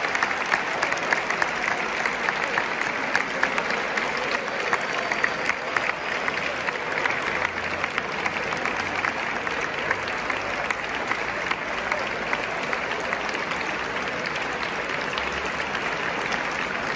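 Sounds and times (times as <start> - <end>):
crowd applause: 0.0 - 16.9.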